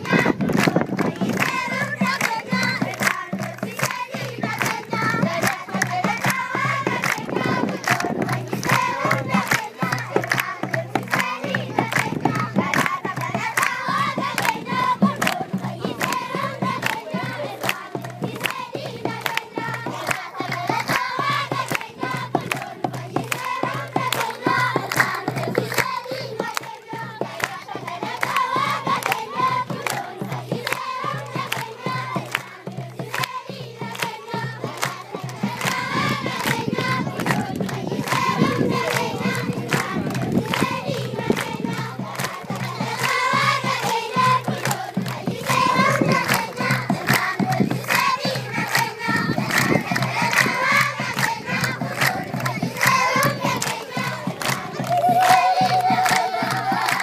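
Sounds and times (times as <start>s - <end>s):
children singing together: 0.0s - 57.0s
hands clapping in rhythm: 0.0s - 57.0s.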